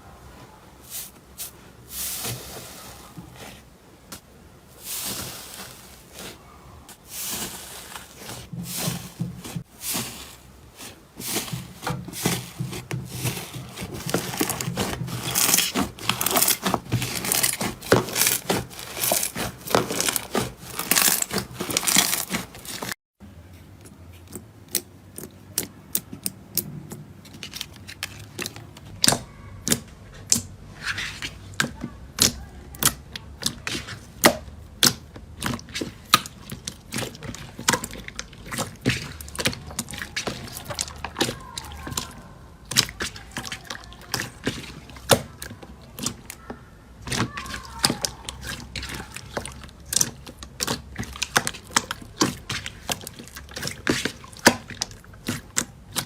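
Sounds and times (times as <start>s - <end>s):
crinkling crunching sound: 0.8s - 23.0s, 23.6s - 56.0s.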